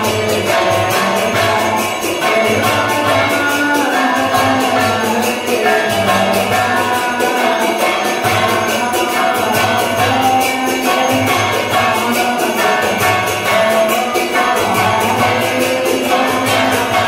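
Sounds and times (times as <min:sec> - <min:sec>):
held sung or played tones: 0:00.0 - 0:17.0
quick jingling beat: 0:00.0 - 0:17.0.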